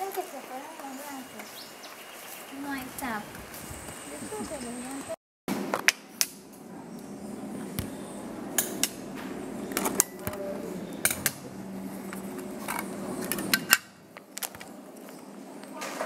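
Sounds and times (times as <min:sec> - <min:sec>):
steady low hum: 0:02.4 - 0:15.7.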